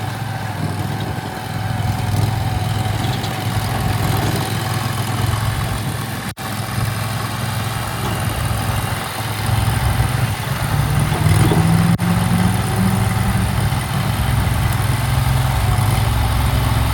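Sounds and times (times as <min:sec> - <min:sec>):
gasoline engine running: 0:00.0 - 0:16.9.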